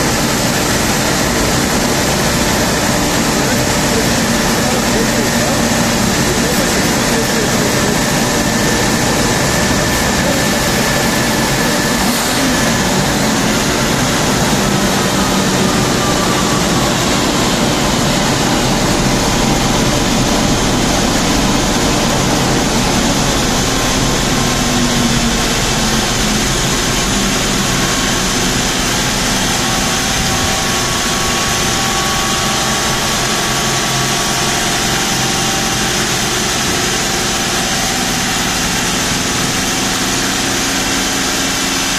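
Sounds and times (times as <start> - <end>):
car engine droning: 0.0 - 41.6.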